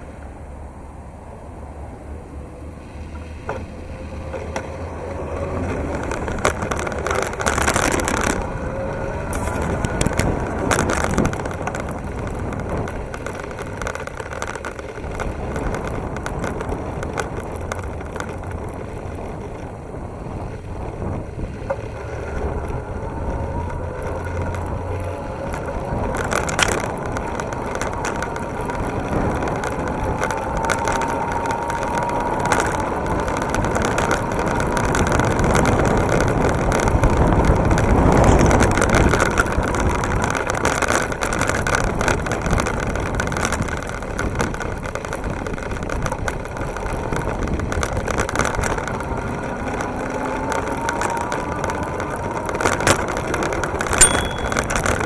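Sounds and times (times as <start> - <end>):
tyre and wind rumble: 0.0 - 55.0
bike knocking and rattling over bumps: 2.9 - 55.0.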